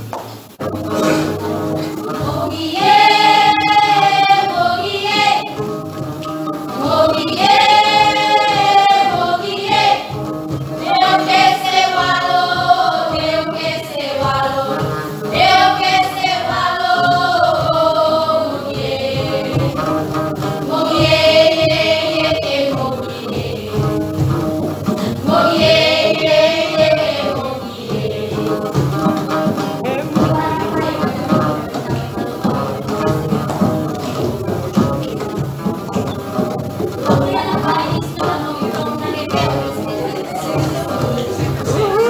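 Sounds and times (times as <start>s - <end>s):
women's choir singing: 0.7s - 35.7s, 37.0s - 42.0s.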